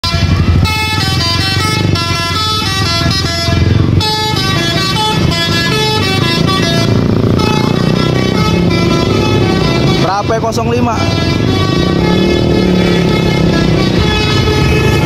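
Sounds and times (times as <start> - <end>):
bus musical horn melody: 0.0 - 15.0
engines running: 0.0 - 15.0
motorcycles running: 0.0 - 15.0.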